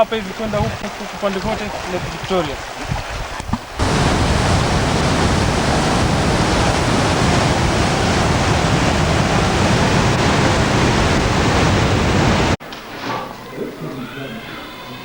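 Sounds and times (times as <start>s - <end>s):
flowing water rushing: 0.0s - 12.6s.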